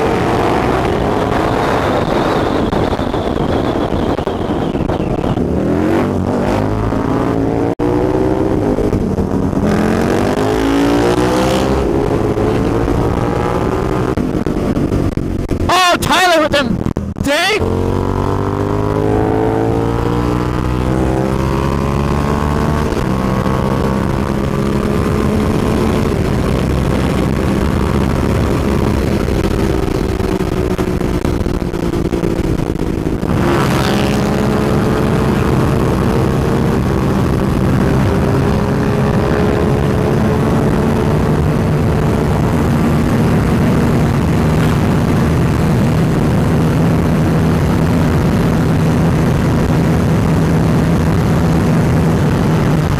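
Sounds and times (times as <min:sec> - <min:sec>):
motorcycle engine accelerating: 0:00.0 - 0:52.9
wind rush: 0:00.0 - 0:52.9.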